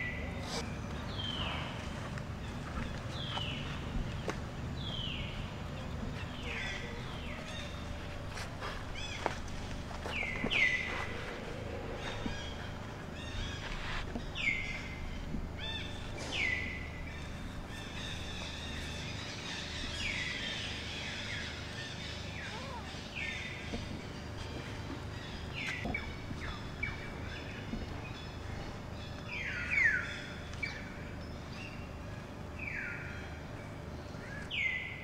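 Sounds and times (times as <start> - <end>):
birds calling: 0.0 - 35.0
low background rumble: 0.0 - 35.0.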